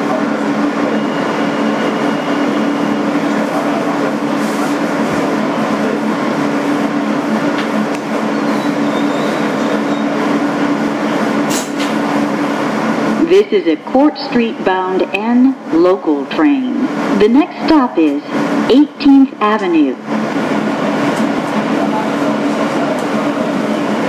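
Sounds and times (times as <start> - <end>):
subway car interior noise: 0.0 - 24.0.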